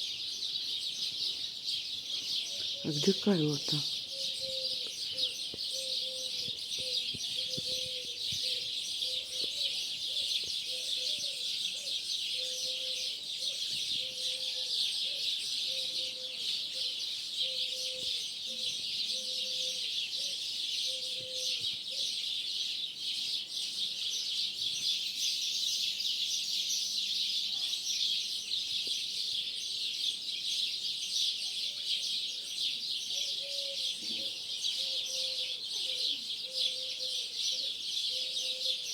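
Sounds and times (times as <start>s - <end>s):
starlings chattering and whistling: 0.0s - 38.9s.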